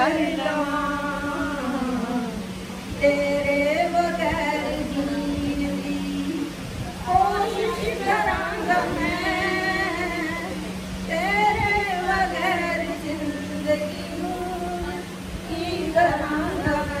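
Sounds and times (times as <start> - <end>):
steady low hum: 0.0 - 17.0
woman singing into microphone: 0.0 - 17.0.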